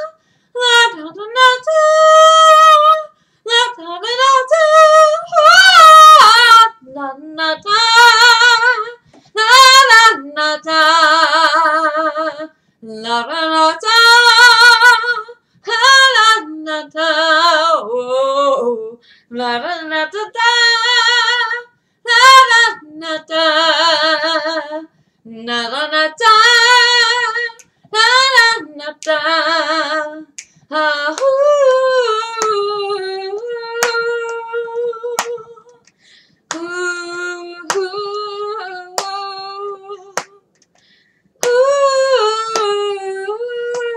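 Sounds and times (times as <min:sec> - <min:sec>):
woman singing a cappella: 0:00.0 - 0:43.9.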